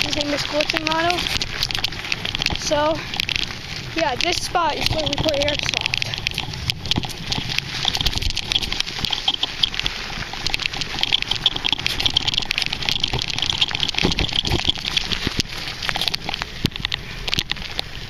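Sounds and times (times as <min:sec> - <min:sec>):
bicycle frame clicks and knocks: 0:00.0 - 0:18.0
bicycle tyres crunching gravel: 0:00.0 - 0:18.0.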